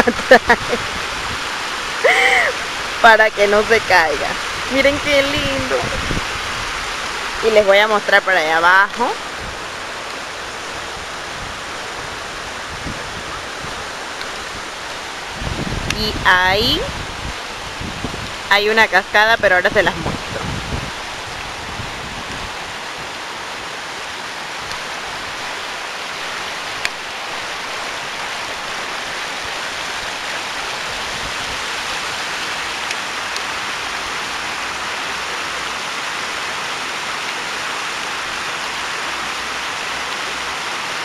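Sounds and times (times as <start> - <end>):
water rushing over rocks: 0.0 - 41.0.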